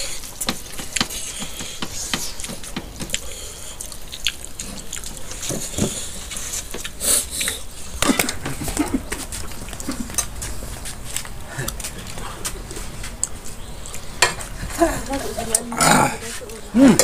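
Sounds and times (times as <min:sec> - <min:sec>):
people eating with hands: 0:00.0 - 0:17.0.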